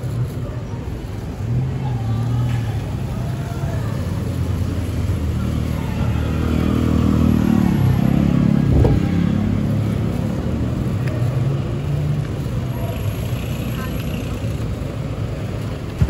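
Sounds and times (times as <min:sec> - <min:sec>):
cars passing: 0:00.0 - 0:16.0
motorcycles passing: 0:00.0 - 0:16.0.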